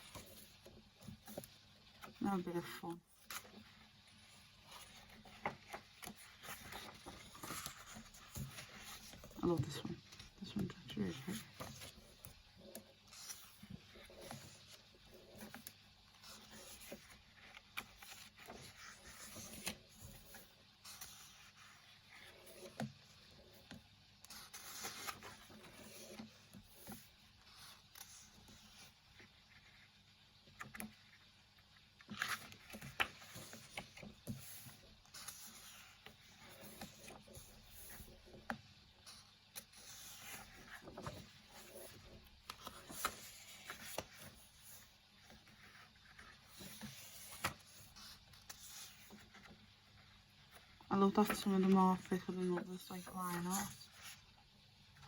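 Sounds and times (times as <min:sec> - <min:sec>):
paper pages rustling: 0:00.0 - 0:54.3.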